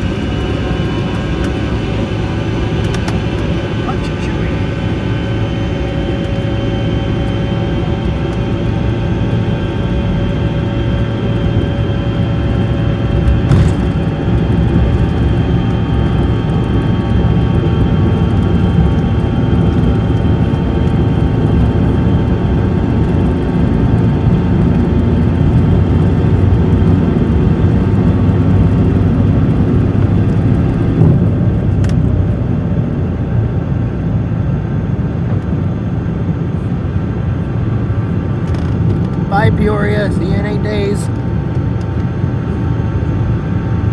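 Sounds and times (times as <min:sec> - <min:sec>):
engine whine: 0:00.0 - 0:43.9
jet engines rumbling: 0:00.0 - 0:43.9.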